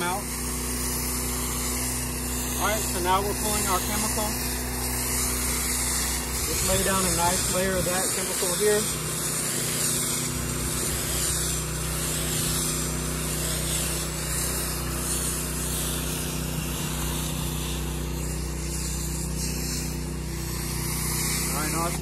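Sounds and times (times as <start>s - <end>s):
pressure washer hum: 0.0s - 22.0s
water spray hissing: 0.0s - 22.0s.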